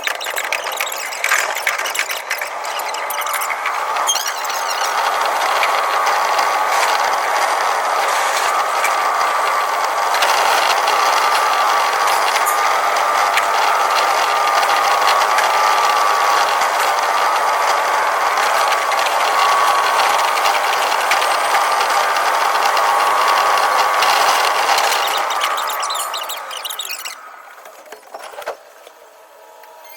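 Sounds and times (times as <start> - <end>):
rapid clicks: 0.0 - 27.7
wavering whine: 0.0 - 27.8, 29.3 - 29.9
train wheel and track noise: 0.0 - 28.5.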